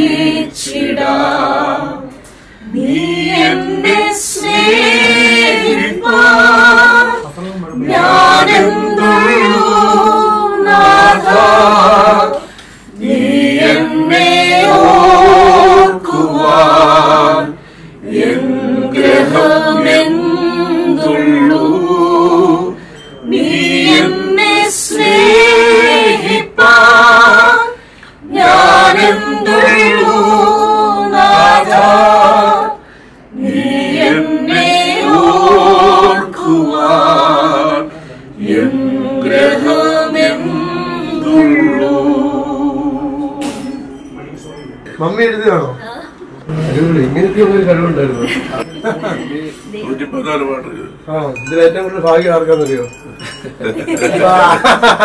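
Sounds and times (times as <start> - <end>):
voices singing without instruments: 0.0 - 44.3, 52.1 - 55.0.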